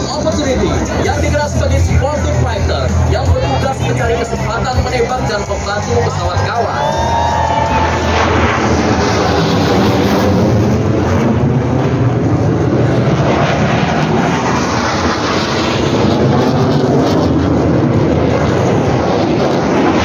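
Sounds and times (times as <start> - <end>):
fighter jet flying overhead: 0.0 - 20.0.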